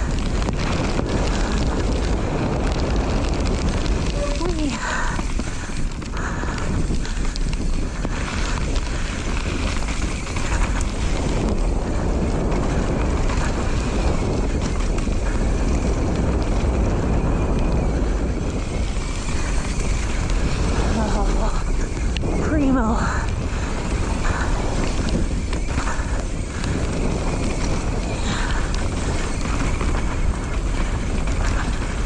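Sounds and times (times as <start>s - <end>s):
bike tyres rumbling on dirt trail: 0.0s - 32.0s
wind over microphone: 0.0s - 32.0s.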